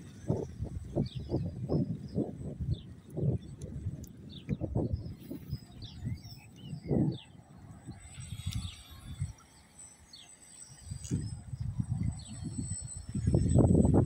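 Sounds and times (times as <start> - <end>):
wind buffeting the microphone: 0.0 - 9.4, 10.9 - 14.0
small birds chirping: 0.2 - 13.5.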